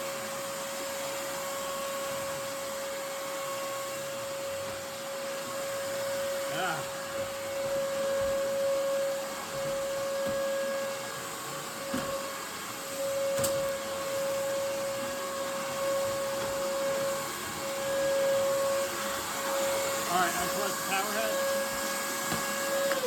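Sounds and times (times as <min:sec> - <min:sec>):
vacuum whine and air rush: 0:00.0 - 0:23.0.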